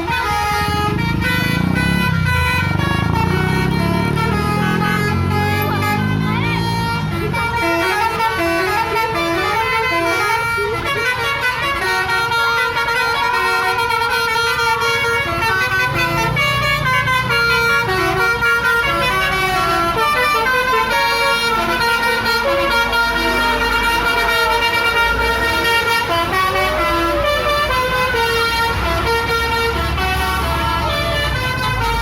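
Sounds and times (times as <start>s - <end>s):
bus engine rumbling: 0.0s - 32.0s
multi-tone bus horn tune: 0.0s - 32.0s.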